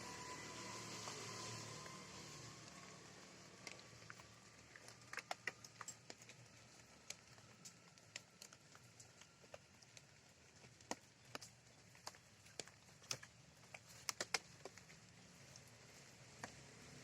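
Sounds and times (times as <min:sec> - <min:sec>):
raindrops ticking: 0:00.0 - 0:17.0
soft hiss of rainfall: 0:00.0 - 0:17.0.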